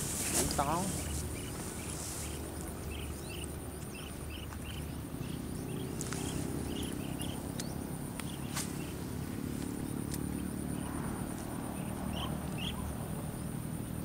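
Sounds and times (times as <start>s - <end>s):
insect high trill: 0.0s - 14.0s
short repeated insect calls: 0.0s - 14.0s.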